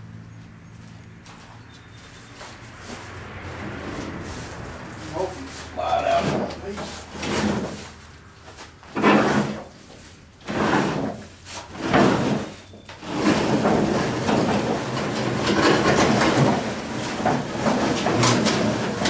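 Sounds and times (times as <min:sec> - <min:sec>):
heavy object scraping across floor: 0:02.2 - 0:19.0.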